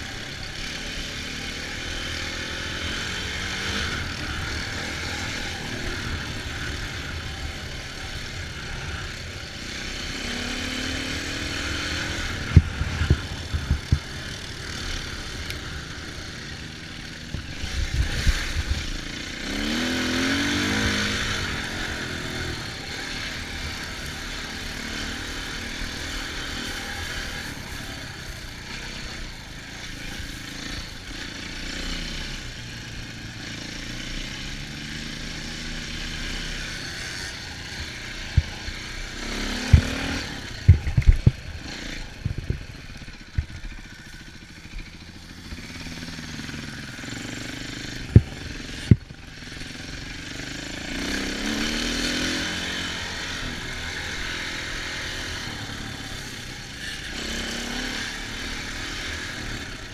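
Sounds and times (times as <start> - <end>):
off-road engines revving: 0.0 - 59.9.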